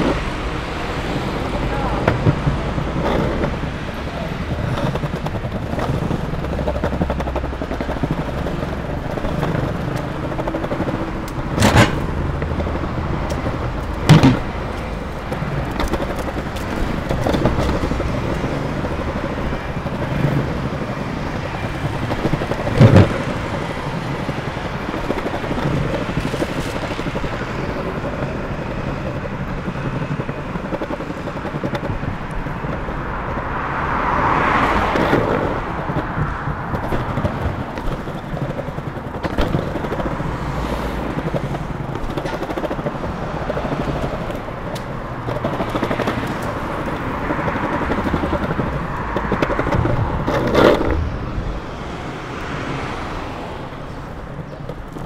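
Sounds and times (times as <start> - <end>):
skateboard wheels rolling on pavement: 0.0 - 55.0
street traffic: 0.0 - 55.0
wheel clicks at slab joints: 0.0 - 55.0.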